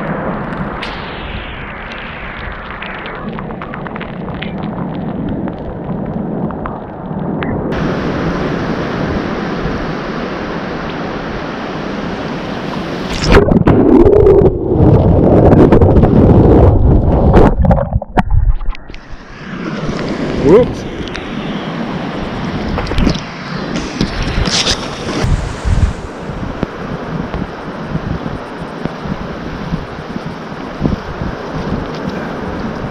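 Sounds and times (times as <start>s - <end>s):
surf washing: 0.0s - 6.7s, 7.7s - 32.9s
wind on microphone: 0.0s - 32.9s.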